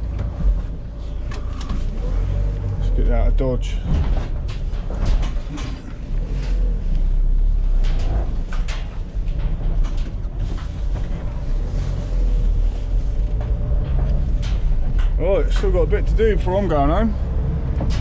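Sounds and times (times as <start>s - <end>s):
van engine and road rumble: 0.0s - 18.0s.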